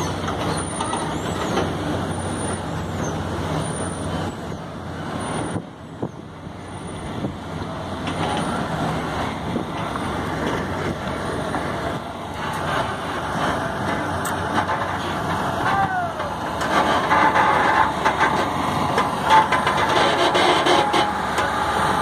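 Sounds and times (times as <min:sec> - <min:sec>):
diesel truck engines running: 0:00.0 - 0:22.0
road noise: 0:00.0 - 0:22.0.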